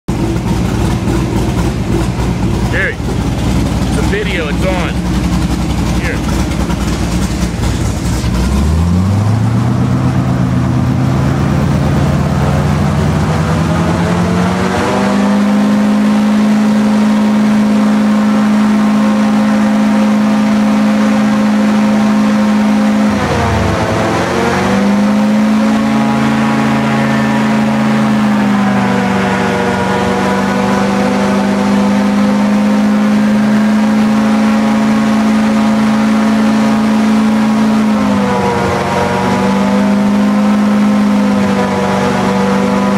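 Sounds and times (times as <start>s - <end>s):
airboat engine and propeller: 0.1s - 42.9s.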